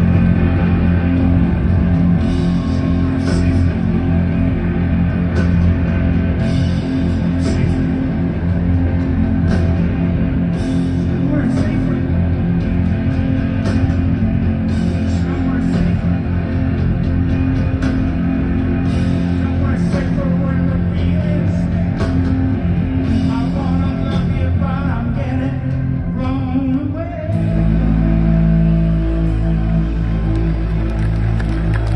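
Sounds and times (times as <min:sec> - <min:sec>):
lead guitar bending notes: 0:00.0 - 0:30.8
live rock band playing: 0:00.0 - 0:31.9.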